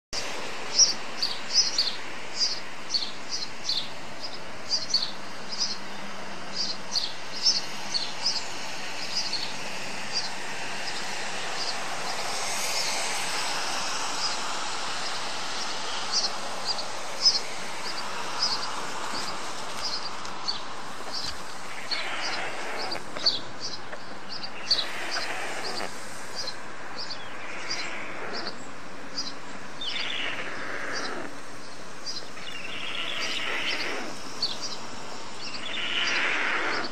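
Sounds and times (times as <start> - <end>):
outdoor hiss: 0.2 - 36.9
small songbird chirping: 0.7 - 36.9.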